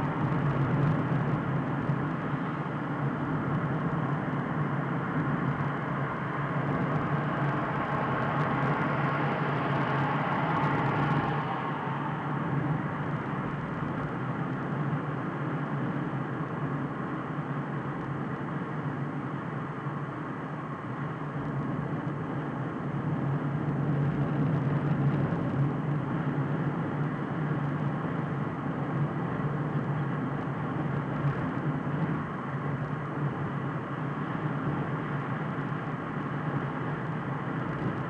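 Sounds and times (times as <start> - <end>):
tyre and road noise: 0.0 - 19.1, 20.6 - 38.0
car engine hum inside cabin: 0.0 - 38.0.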